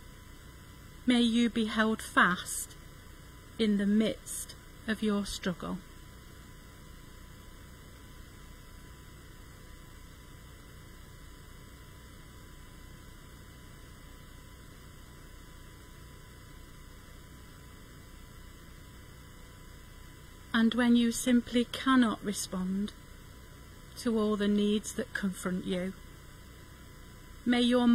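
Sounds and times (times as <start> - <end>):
mains hum and hiss: 0.0 - 27.9.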